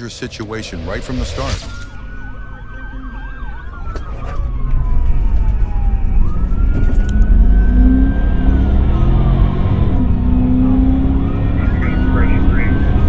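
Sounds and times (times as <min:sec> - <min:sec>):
engine and road rumble: 0:00.0 - 0:13.0
police siren wailing: 0:00.4 - 0:13.0.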